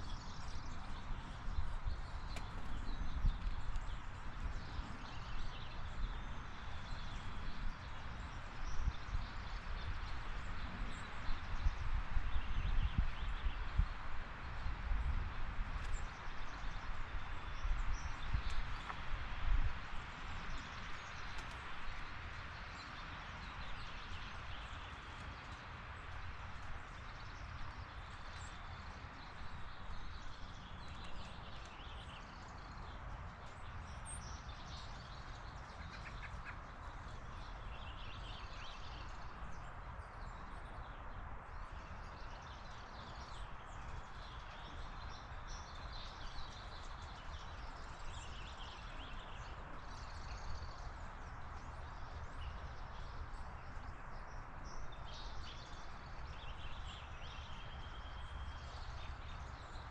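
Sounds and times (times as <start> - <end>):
outdoor background noise: 0.0 - 59.9
small birds chirping: 0.0 - 59.9.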